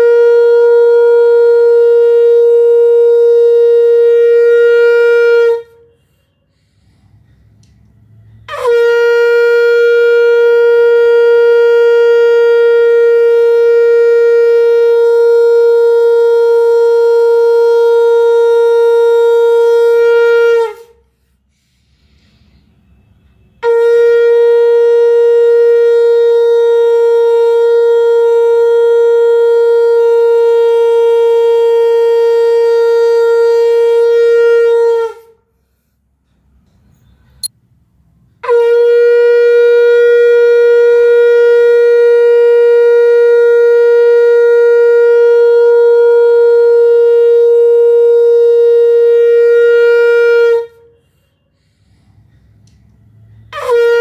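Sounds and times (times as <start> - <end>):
conch shell blasts: 0.0 - 6.0, 8.2 - 21.0, 22.8 - 35.4, 38.4 - 51.7, 53.1 - 54.0.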